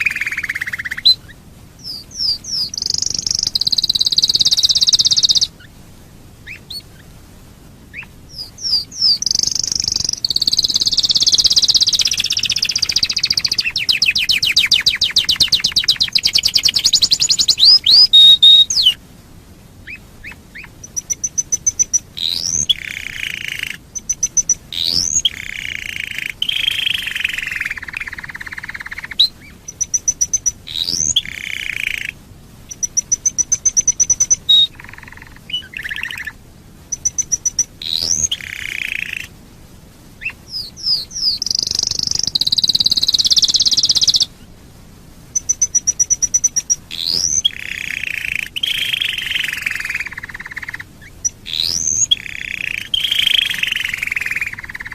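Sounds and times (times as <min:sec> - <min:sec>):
canary singing: 0:00.0 - 0:05.8, 0:06.4 - 0:07.1, 0:07.9 - 0:19.0, 0:19.8 - 0:39.3, 0:40.2 - 0:44.4, 0:45.3 - 0:54.9.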